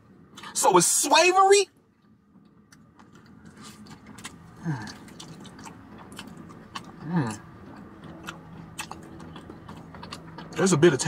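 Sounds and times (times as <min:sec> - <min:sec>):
person chewing crispy chicken: 0:02.0 - 0:11.0.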